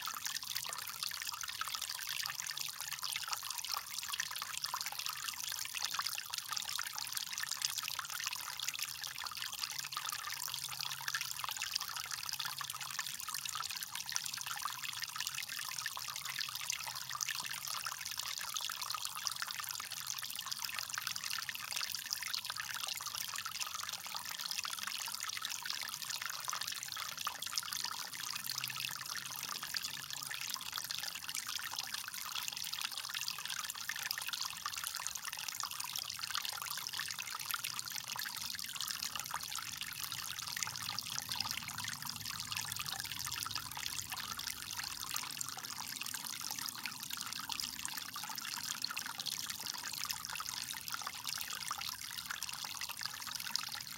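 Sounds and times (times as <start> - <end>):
water trickling from drain pipe: 0.0 - 53.9.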